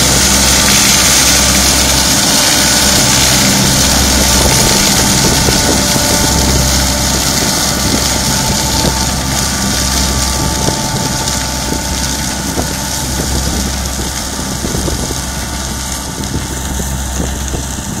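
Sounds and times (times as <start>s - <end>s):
diesel engine running under load: 0.0s - 18.0s
lifting machinery noise: 0.0s - 18.0s.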